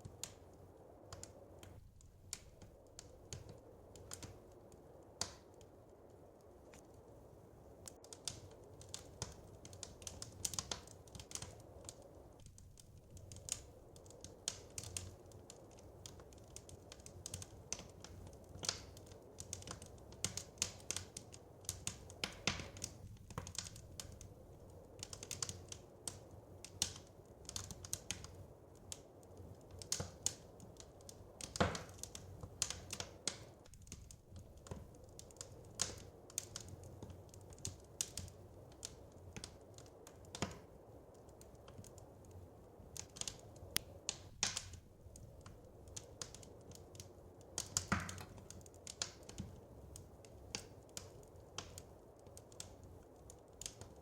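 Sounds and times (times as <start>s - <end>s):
low steady fire rumble: 0.0s - 54.0s
wood fire crackling: 0.0s - 54.0s.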